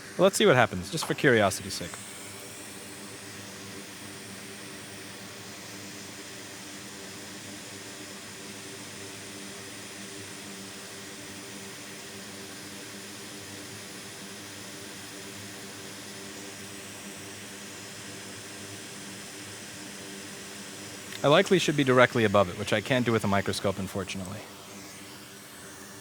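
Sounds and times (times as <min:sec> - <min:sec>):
faint steady hum: 0:00.0 - 0:13.0, 0:14.3 - 0:26.0
hot air blower hissing: 0:00.0 - 0:26.0.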